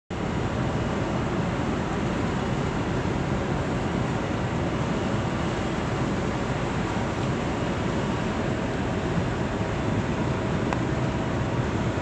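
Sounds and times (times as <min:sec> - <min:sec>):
ship machinery drone: 0:00.1 - 0:12.0.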